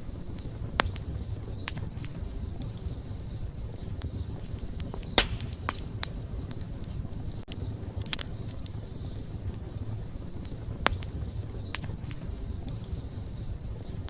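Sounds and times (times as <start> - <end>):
campfire flame rumble: 0.0 - 14.0
fire crackles and pops: 0.0 - 14.0.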